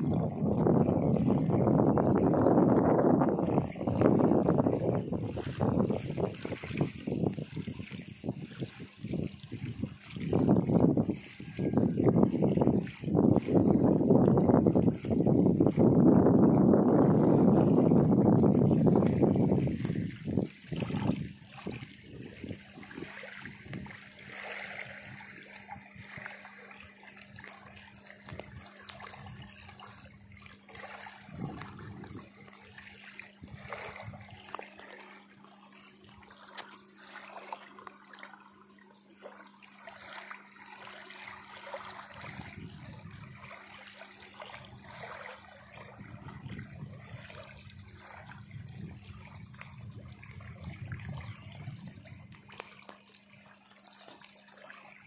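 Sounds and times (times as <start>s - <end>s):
waves lapping on stony shore: 0.0s - 55.0s.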